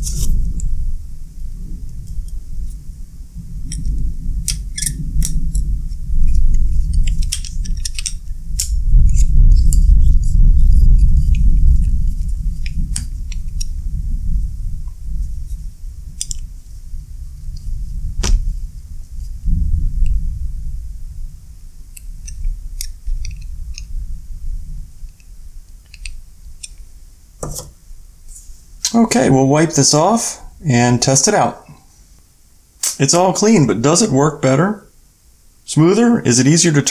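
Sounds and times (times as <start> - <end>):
low rumbling handling noise: 0.0 - 32.4.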